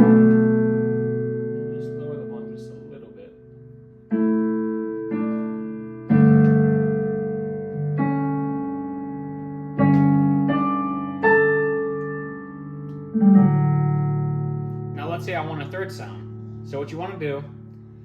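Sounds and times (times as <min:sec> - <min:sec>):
synthesizer piano chords with pad: 0:00.0 - 0:18.0.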